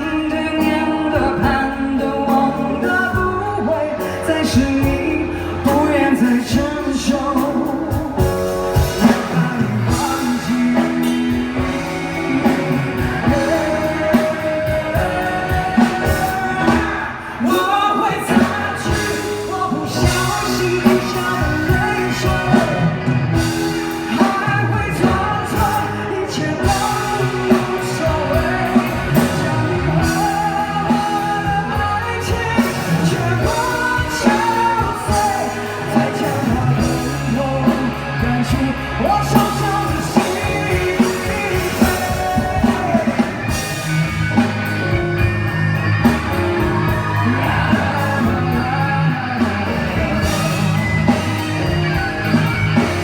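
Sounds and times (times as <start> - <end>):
band playing: 0.0 - 53.0
woman singing rock ballad: 0.0 - 53.0.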